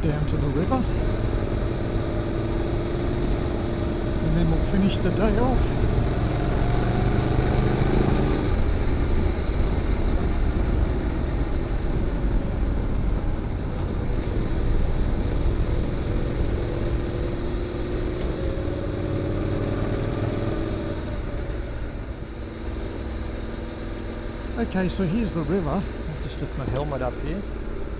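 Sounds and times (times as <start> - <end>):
motorcycle engine running: 0.0 - 27.9
wind and road noise: 0.0 - 27.9.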